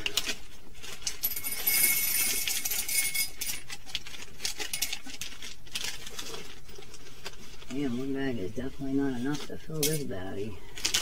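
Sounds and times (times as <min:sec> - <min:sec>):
candy pouring rush: 0:00.0 - 0:11.0.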